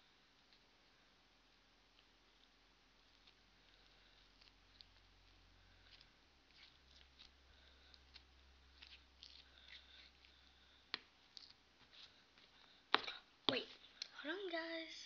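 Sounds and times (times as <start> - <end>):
sticky slime crackling: 1.8 - 14.6.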